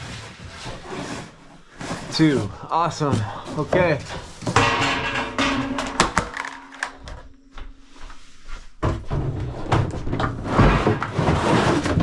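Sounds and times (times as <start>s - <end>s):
clattering and rustling: 0.0s - 12.0s.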